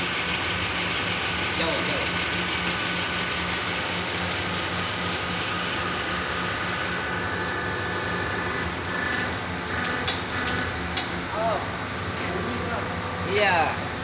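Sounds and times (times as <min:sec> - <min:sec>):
hydraulic pump humming and throbbing: 0:00.0 - 0:14.0.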